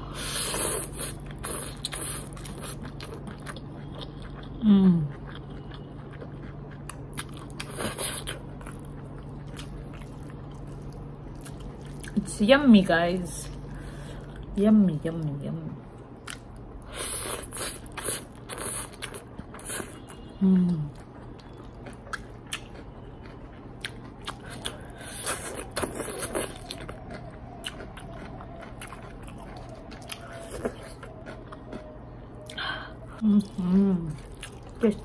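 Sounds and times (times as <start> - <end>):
chewing with mouth clicks: 0.2 - 12.3, 16.1 - 32.6, 33.2 - 35.0.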